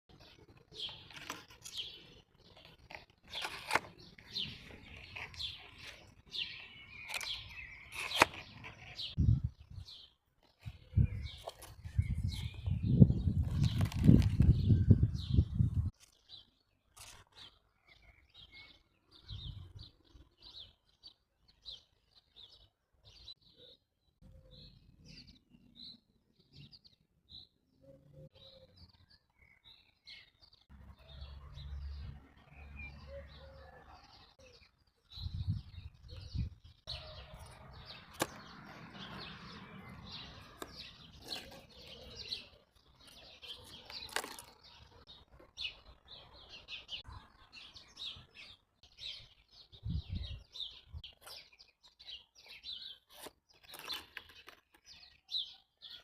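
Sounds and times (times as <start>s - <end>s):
small birds chirping: 0.1s - 56.0s.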